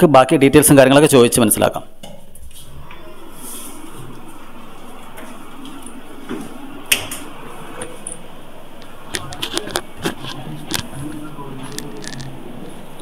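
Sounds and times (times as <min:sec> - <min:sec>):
machinery humming: 0:01.2 - 0:13.0.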